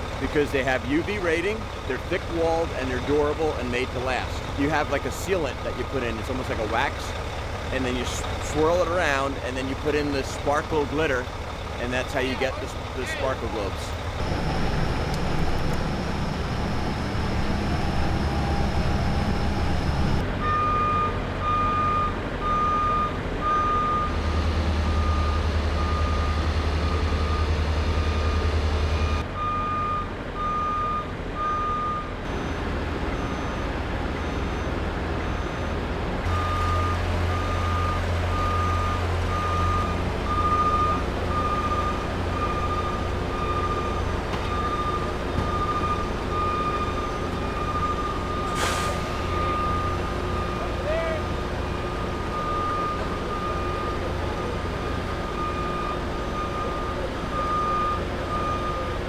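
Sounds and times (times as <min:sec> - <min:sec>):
reversing alarm beeping: 0:00.0 - 0:59.0
vehicle engine rumble: 0:00.0 - 0:59.0.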